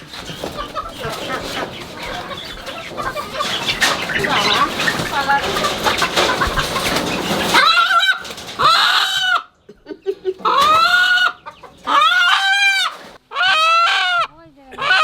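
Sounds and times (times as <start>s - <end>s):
rustling: 0.0s - 9.3s, 10.4s - 13.2s
roosters calling: 0.0s - 15.0s.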